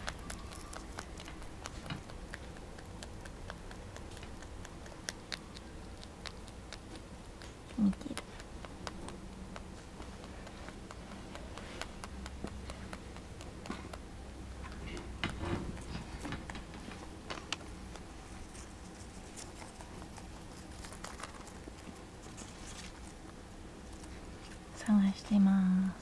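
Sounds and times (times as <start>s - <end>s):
rabbit chewing hay: 0.0s - 26.0s.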